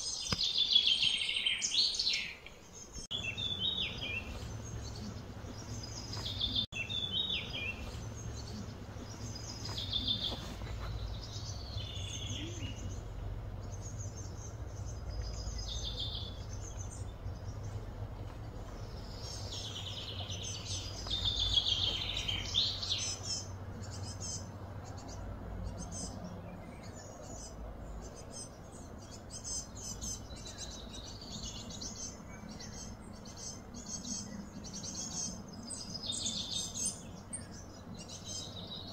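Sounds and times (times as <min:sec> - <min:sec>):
birds chirping and singing: 0:00.0 - 0:38.9
low background hum: 0:02.5 - 0:38.9.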